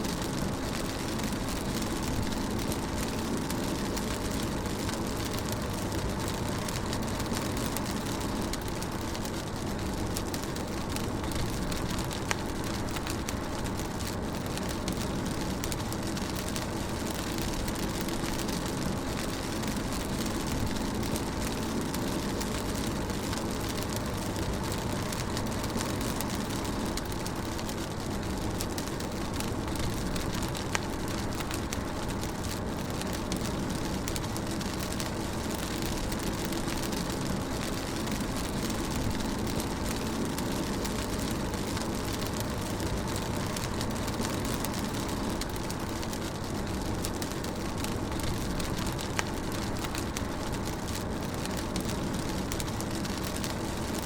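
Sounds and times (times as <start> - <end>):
rain hissing on car: 0.0 - 54.0.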